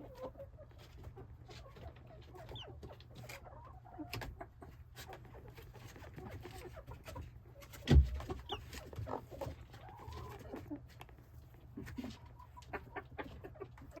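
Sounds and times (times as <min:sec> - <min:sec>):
chickens clucking: 0:00.0 - 0:14.0
small knocks and rustles: 0:00.1 - 0:14.0.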